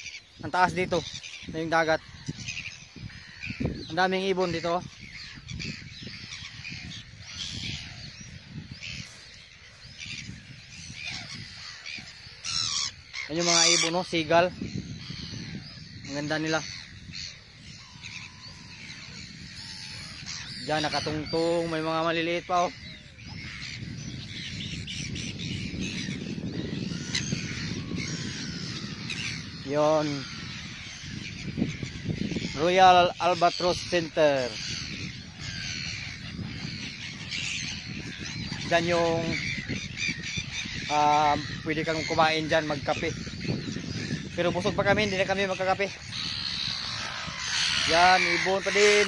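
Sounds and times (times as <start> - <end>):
gulls calling: 0.0 - 49.0.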